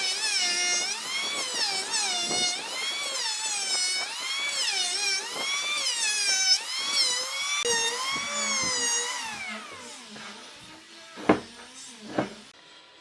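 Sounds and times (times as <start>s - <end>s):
power tool whining on wood: 0.0s - 12.6s.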